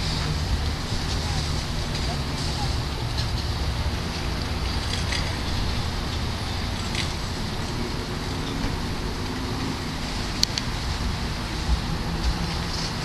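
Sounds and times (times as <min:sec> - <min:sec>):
low outdoor rumble and hiss: 0:00.0 - 0:13.0.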